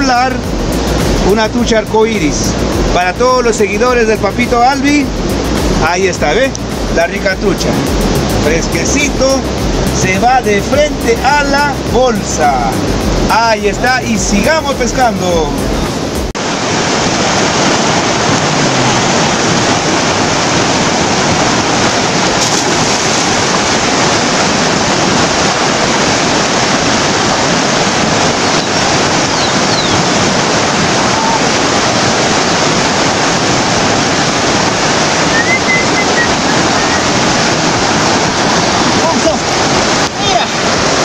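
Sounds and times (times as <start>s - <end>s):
river rushing over rocks: 0.0s - 41.0s.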